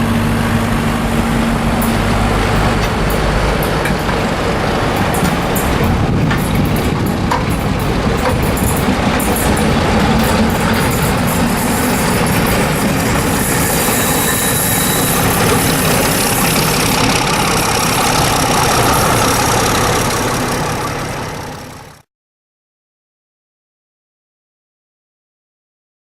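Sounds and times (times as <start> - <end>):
diesel locomotive engine idling: 0.0 - 22.0.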